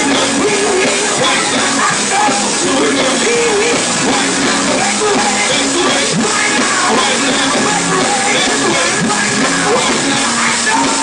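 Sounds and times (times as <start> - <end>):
live gospel band music: 0.0 - 11.0
voices singing and shouting: 0.0 - 11.0.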